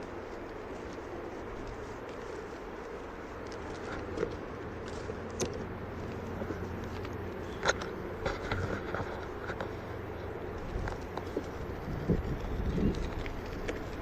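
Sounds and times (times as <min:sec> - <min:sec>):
ticks and small knocks: 0:00.2 - 0:14.0.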